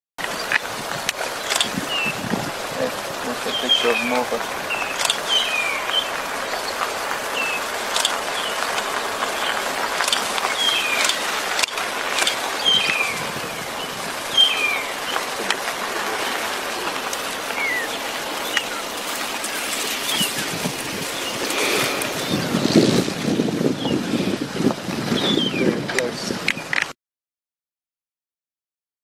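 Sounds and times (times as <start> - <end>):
outdoor hiss: 0.2 - 23.6
birds calling with falling chirps: 0.2 - 26.9.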